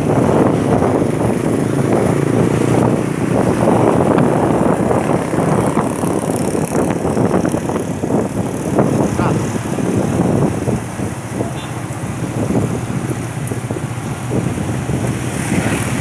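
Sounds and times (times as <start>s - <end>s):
large road vehicle passing: 0.0s - 16.0s
wind buffeting microphone: 0.0s - 16.0s.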